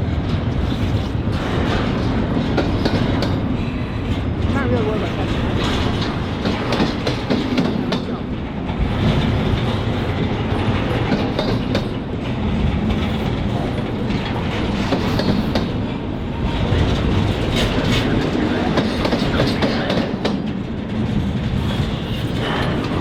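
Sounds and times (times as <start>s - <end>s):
freight train rumbling past: 0.0s - 23.0s
wheels clicking over rails: 0.1s - 23.0s.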